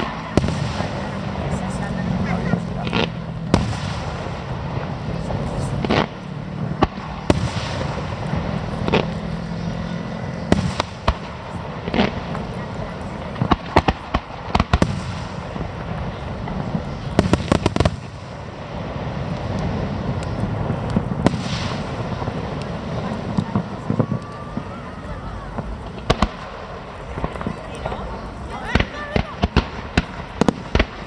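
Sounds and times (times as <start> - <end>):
crackling firework volleys: 0.0 - 31.0
firework shells bursting with bangs: 0.0 - 31.0.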